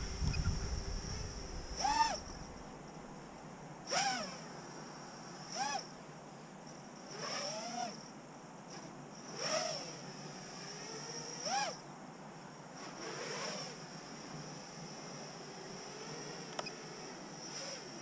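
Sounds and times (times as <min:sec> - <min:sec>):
drone motors whining overhead: 0:00.0 - 0:18.0.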